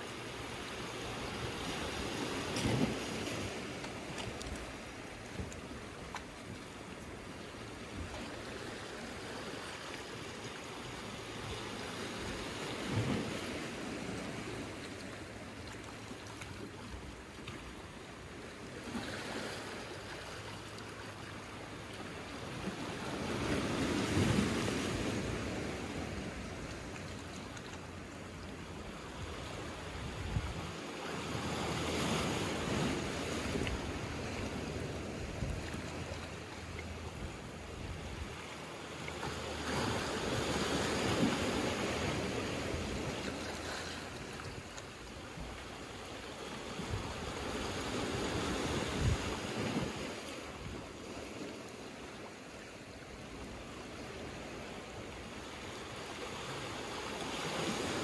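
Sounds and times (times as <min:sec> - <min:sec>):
waves washing over pebbles: 0:00.0 - 0:52.5.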